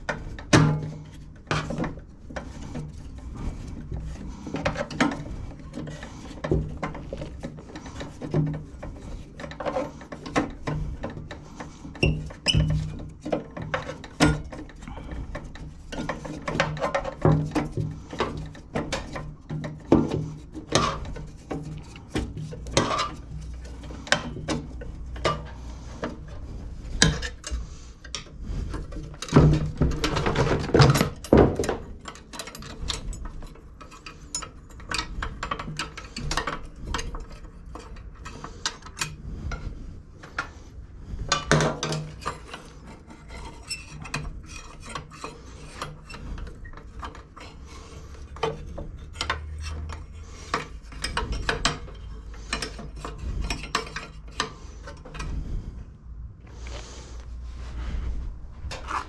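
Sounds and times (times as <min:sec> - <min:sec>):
metal tools clinking and scraping: 0:00.0 - 0:39.2, 0:41.2 - 0:55.3.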